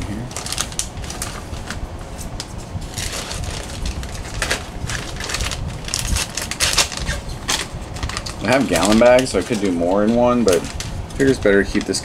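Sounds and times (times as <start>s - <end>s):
plastic bags crinkling: 0.1s - 12.0s.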